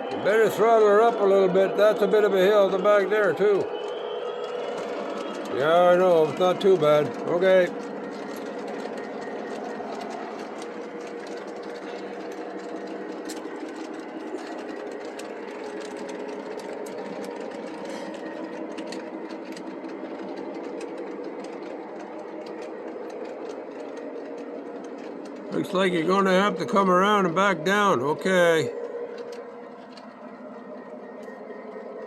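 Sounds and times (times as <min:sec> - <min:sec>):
light clicks of train on track: 0:00.0 - 0:32.0
model train motor hum: 0:00.0 - 0:32.0.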